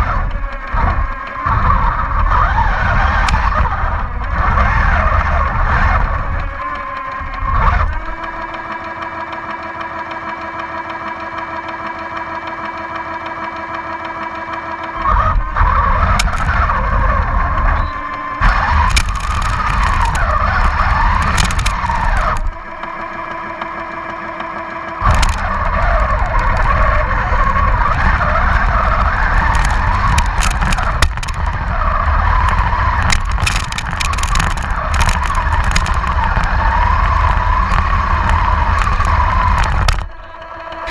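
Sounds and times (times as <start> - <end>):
low rumble: 0.0 - 8.9, 14.9 - 24.0, 25.0 - 40.9
sharp clicks: 0.0 - 40.9
simulated engine idle: 0.0 - 40.9
toy tank motors and tracks: 0.0 - 40.9.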